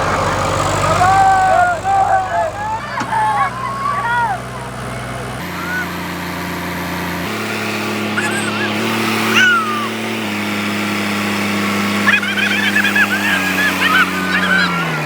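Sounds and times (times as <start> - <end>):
birds twittering: 0.0 - 15.0
diesel tractor engine running: 0.0 - 15.0.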